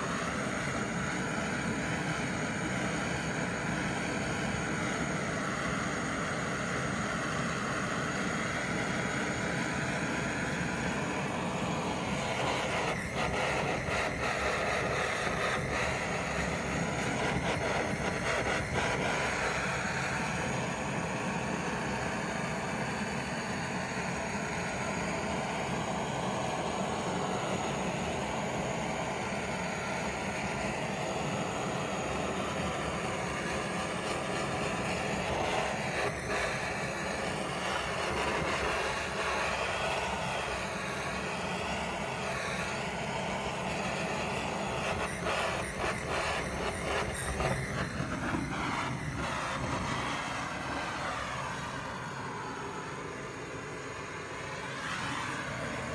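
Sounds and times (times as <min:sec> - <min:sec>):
blowtorch rushing hiss: 0:00.0 - 0:55.9.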